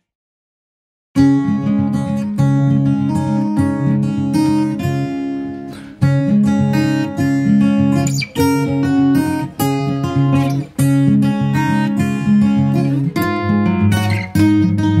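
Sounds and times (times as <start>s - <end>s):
strummed acoustic guitar: 1.2s - 15.0s.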